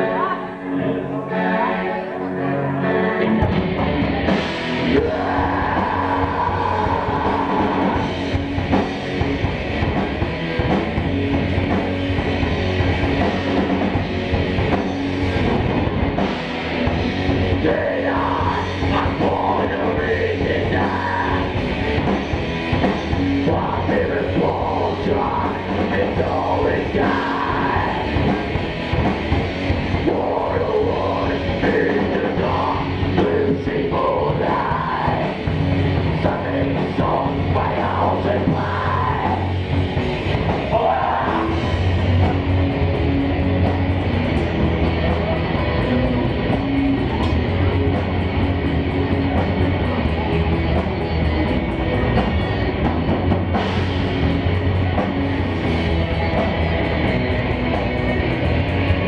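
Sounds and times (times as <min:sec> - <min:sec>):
heavy rock band playing live: 0:00.0 - 0:59.0.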